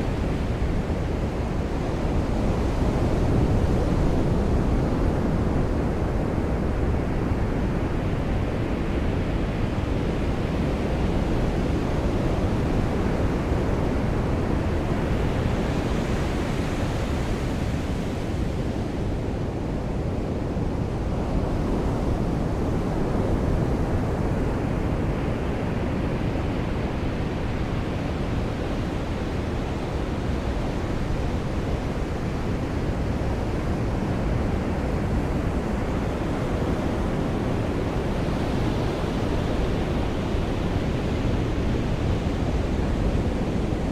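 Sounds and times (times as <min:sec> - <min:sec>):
surf waves washing onto beach: 0:00.0 - 0:43.9.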